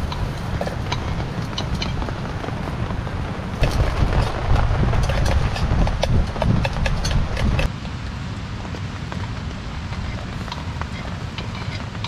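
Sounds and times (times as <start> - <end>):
sharp crackles and ticks: 0.0 - 12.0
wind buffeting microphone: 0.0 - 12.0.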